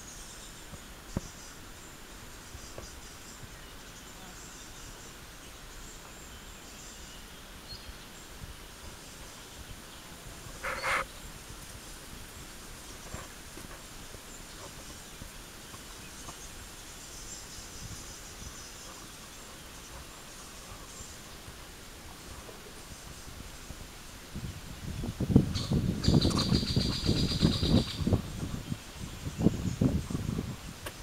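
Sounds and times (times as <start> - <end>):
insects chirping: 0.0 - 24.6, 25.3 - 30.4
low steady hiss: 0.0 - 31.0.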